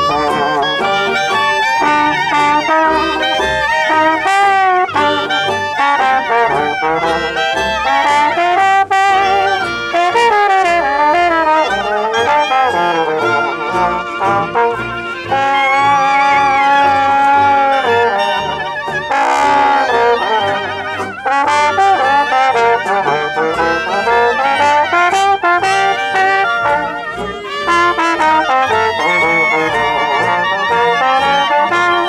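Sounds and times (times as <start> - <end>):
brass instruments playing a tune: 0.0 - 32.0
stepping bass line: 0.0 - 32.0.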